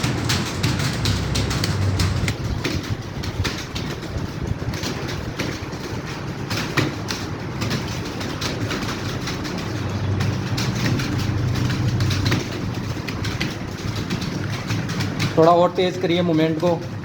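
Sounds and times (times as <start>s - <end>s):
many keyboards clattering: 0.0s - 17.0s.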